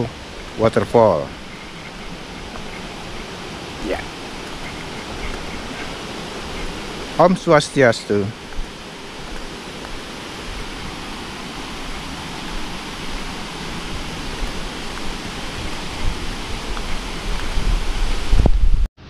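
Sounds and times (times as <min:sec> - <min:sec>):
flowing water rushing: 0:00.0 - 0:18.5.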